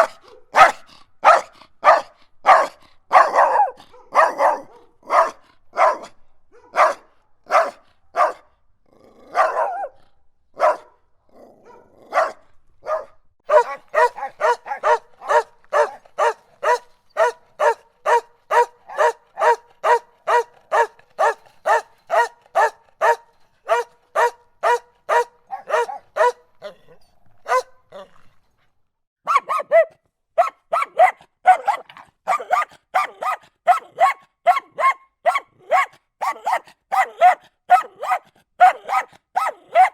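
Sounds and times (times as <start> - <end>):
dog barking aggressively: 0.0 - 8.5, 9.2 - 11.0, 11.6 - 26.8, 27.4 - 28.1, 29.2 - 39.9.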